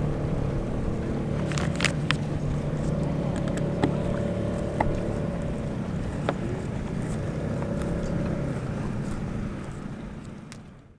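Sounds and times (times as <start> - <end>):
boat engine humming: 0.0 - 10.9.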